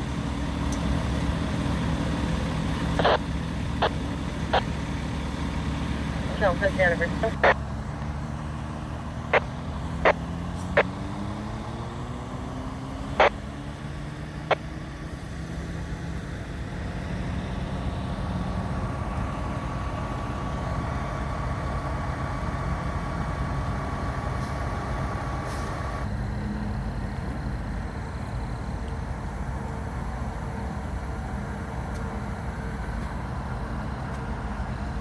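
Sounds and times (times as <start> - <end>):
steady high whine: 0.0 - 35.0
vehicle engines running: 0.0 - 35.0.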